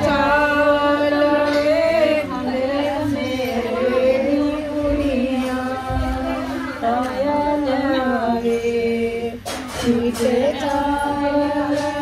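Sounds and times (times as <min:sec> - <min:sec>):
women singing devotional song: 0:00.0 - 0:12.0.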